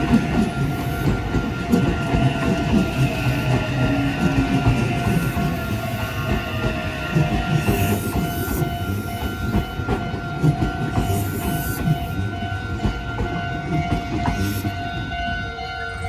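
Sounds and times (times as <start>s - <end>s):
wheels clicking over rail joints: 0.0s - 15.4s
level crossing alarm ringing: 0.0s - 16.0s
train rumbling past: 0.0s - 16.0s.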